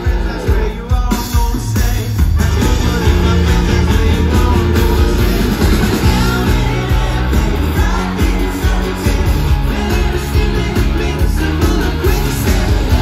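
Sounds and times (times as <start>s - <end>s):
bass guitar: 0.0s - 13.0s
drums: 0.0s - 13.0s
electric guitar: 0.0s - 13.0s
man singing: 0.0s - 13.0s.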